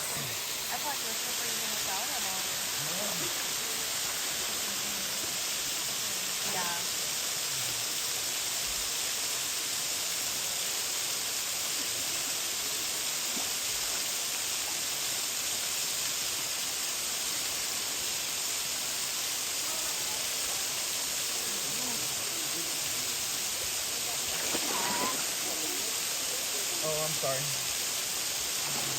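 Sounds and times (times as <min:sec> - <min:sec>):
waterfall pouring into pool: 0:00.0 - 0:28.9.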